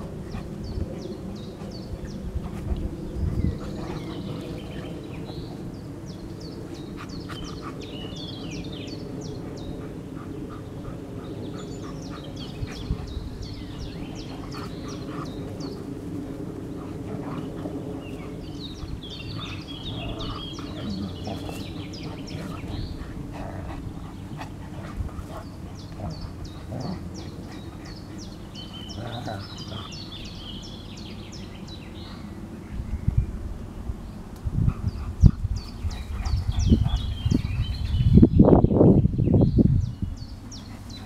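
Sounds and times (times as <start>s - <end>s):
songbirds chirping: 0.0s - 41.0s
steady low rumble: 0.0s - 41.0s.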